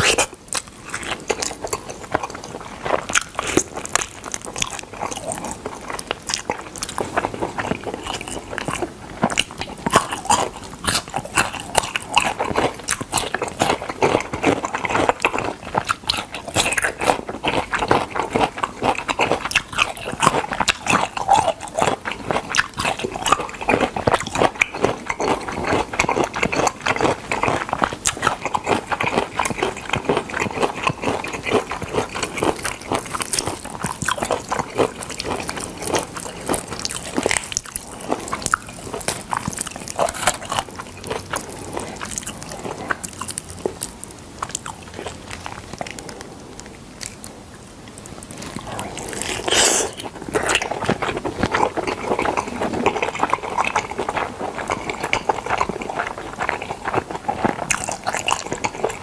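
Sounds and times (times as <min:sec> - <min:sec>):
chewing and biting: 0:00.0 - 0:59.0.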